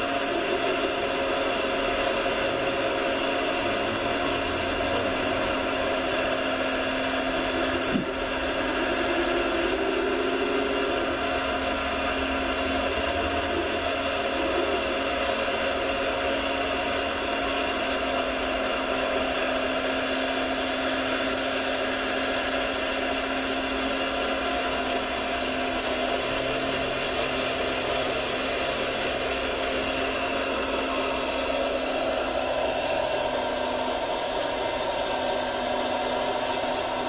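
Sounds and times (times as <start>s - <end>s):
small electric motors whining: 0.0s - 37.0s.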